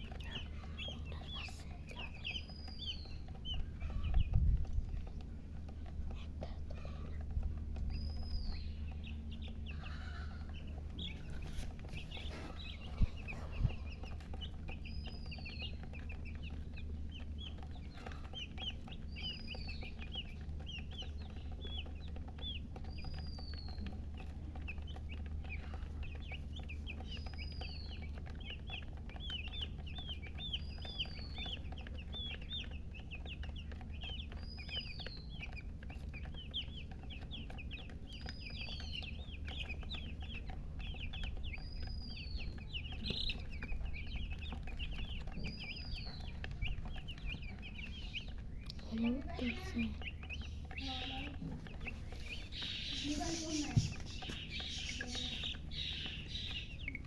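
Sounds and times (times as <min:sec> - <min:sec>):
chicks peeping: 0:00.0 - 0:57.0
steady low hum: 0:00.0 - 0:57.0.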